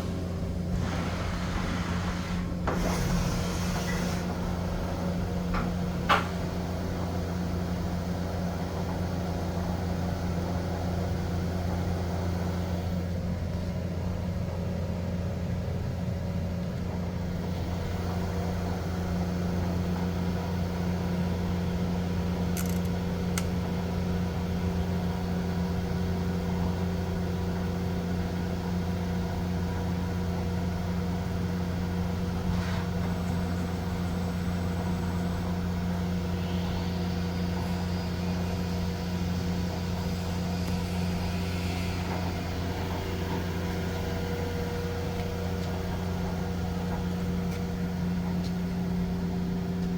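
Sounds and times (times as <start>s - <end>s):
machining center hum: 0.0s - 49.9s.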